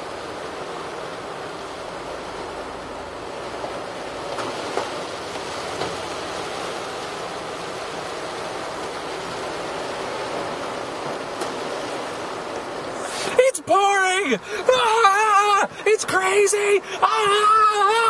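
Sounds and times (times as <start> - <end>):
hard rain on car roof: 0.0 - 18.0.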